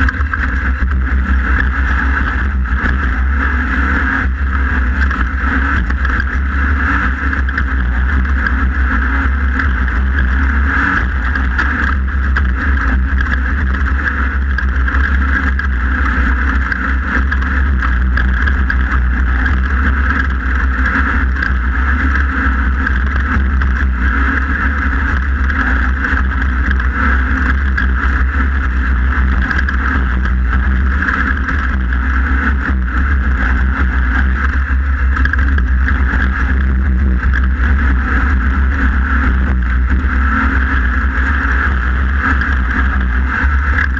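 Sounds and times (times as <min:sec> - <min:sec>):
chassis knocks and rattles: 0:00.0 - 0:43.9
race car engine running loud: 0:00.0 - 0:43.9.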